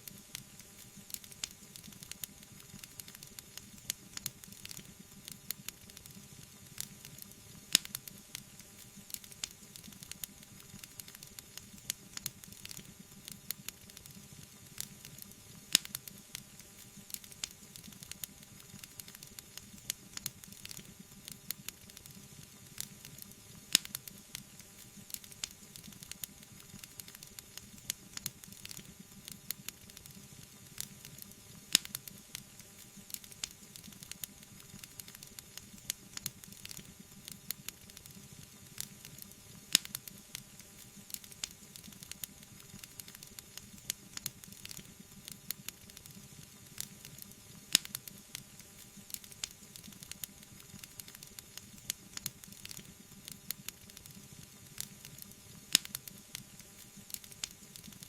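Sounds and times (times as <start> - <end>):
wood fire crackling: 0.0 - 58.0
fire popping: 0.1 - 14.2, 14.8 - 58.0.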